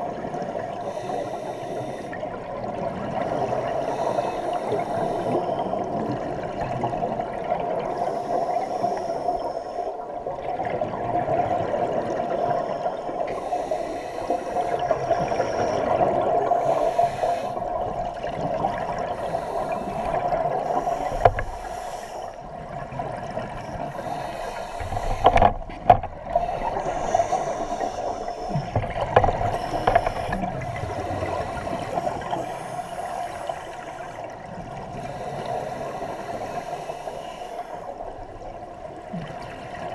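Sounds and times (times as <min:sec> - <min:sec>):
steady underwater rush: 0:00.0 - 0:39.9.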